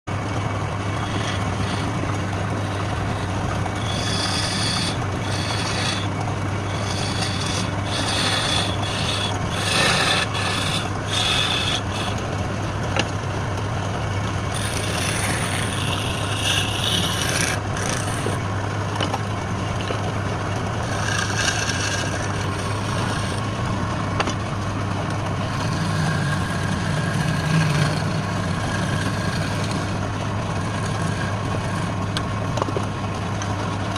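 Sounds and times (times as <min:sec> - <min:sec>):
wood lathe motor hum: 0:00.1 - 0:32.2
turning tool scraping wood: 0:00.7 - 0:13.1, 0:14.4 - 0:19.2, 0:20.8 - 0:23.5, 0:25.4 - 0:32.8.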